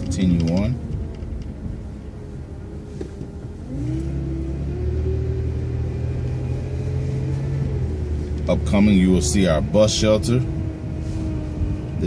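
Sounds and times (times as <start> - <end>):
bus engine accelerating: 0.0 - 12.0
rising engine whine: 0.0 - 12.0.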